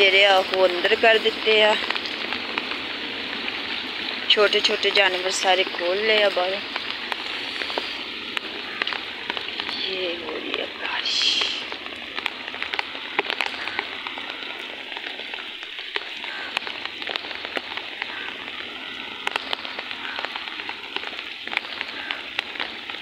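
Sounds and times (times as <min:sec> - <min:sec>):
heavy rain on mud and puddles: 0:00.0 - 0:23.0.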